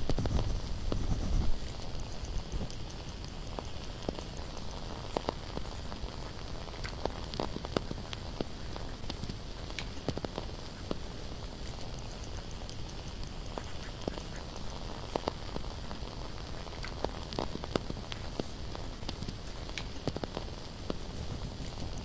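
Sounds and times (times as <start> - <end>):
candle crackling: 0.0 - 22.0
steady low hiss: 0.0 - 22.0.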